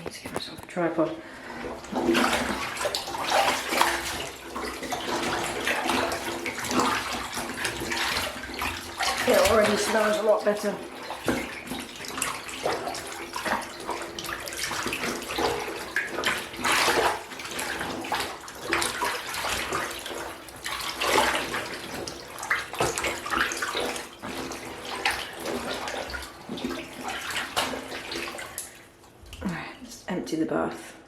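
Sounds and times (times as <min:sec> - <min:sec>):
water sloshing in a bathtub: 0:00.0 - 0:31.0.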